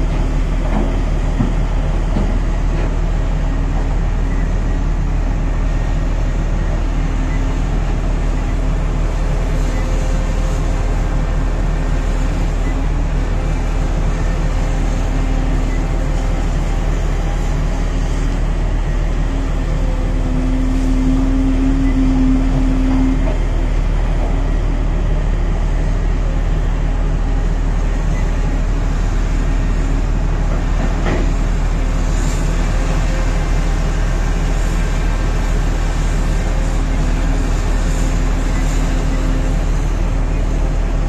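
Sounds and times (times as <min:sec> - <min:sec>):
heavy diesel engines running: 0:00.0 - 0:41.0.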